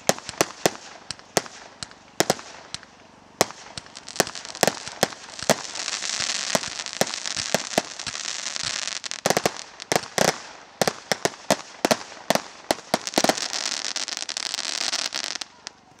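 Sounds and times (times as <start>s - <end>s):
firework bangs: 0.0s - 15.8s
firework crackling hiss: 0.0s - 15.9s.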